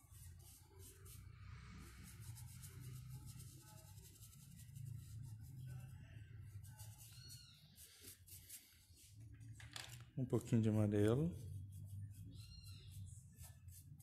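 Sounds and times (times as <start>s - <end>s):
paintbrush scratching on wood: 0.0s - 9.3s, 10.5s - 14.0s.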